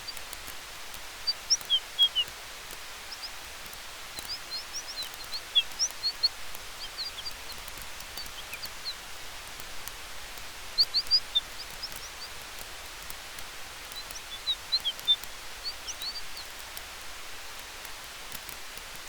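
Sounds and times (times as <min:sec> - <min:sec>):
campfire hiss: 0:00.0 - 0:19.0
fire crackling: 0:00.0 - 0:19.0
small birds chirping: 0:00.0 - 0:19.0
wind: 0:00.0 - 0:19.0.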